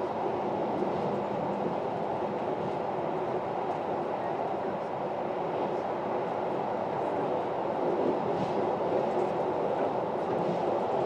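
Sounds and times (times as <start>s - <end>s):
train wheels rolling on rail: 0.0s - 11.0s.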